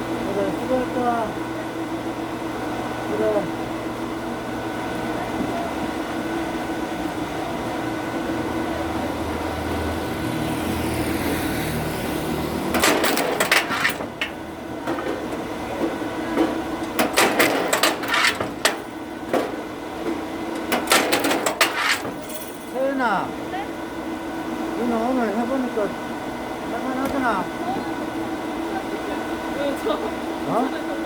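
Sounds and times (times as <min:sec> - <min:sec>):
machine humming: 0:00.0 - 0:30.9.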